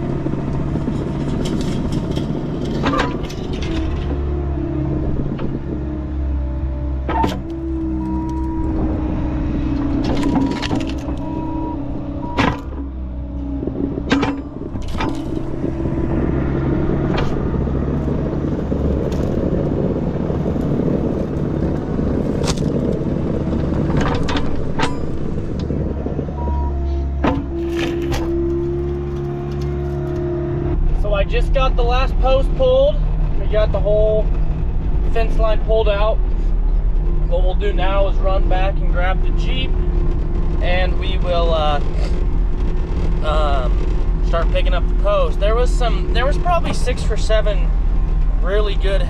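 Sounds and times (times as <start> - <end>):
skid steer engine running: 0.0 - 49.0.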